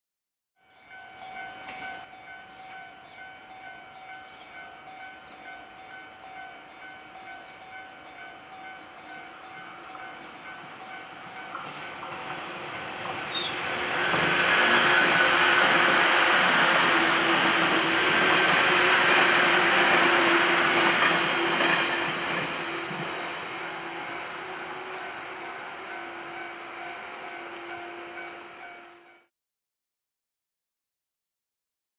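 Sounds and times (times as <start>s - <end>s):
electric train passing: 0.9s - 29.3s.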